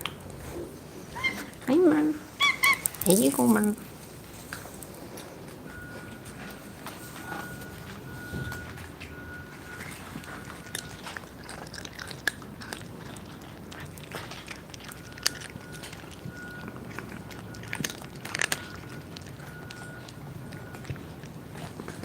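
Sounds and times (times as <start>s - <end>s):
cats crunching food: 0.0s - 22.0s.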